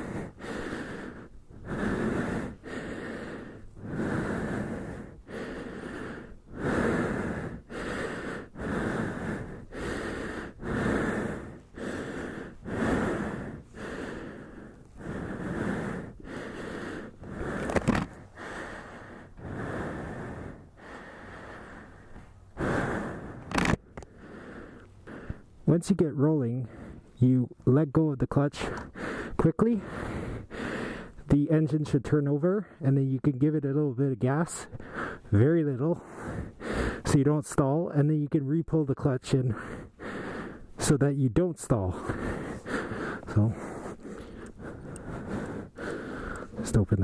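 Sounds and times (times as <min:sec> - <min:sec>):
man breathing heavily: 0:00.0 - 0:25.7, 0:26.4 - 0:27.2, 0:28.6 - 0:31.3, 0:32.5 - 0:32.8, 0:34.6 - 0:38.0, 0:39.2 - 0:47.0.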